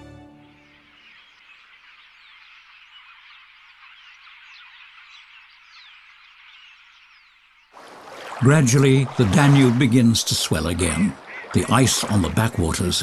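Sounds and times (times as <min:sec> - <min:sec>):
chorus of bird calls: 0:00.4 - 0:13.0.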